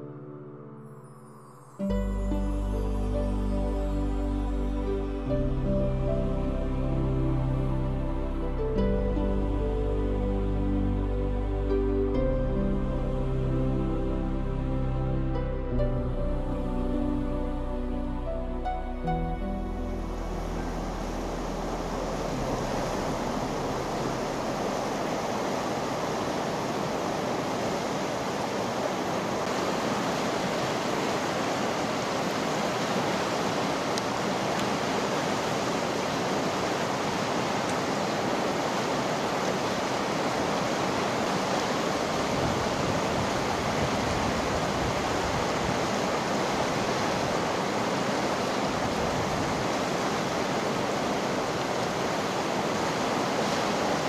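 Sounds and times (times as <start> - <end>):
river water rushing: 1.4 - 54.0.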